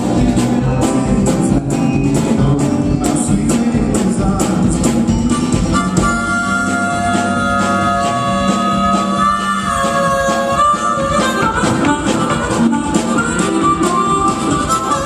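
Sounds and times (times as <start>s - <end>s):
drum beat and cymbals: 0.0s - 15.0s
live band playing: 0.0s - 15.0s.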